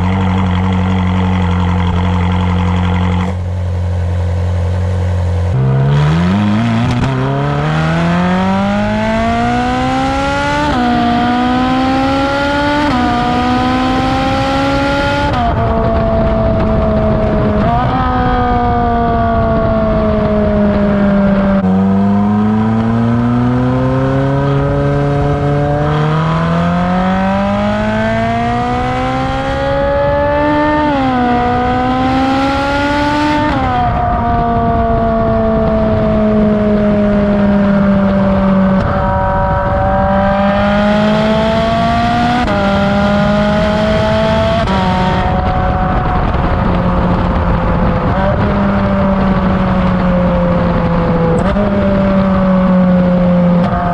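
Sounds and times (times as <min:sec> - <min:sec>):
sports car engine revving: 0:00.0 - 0:53.9.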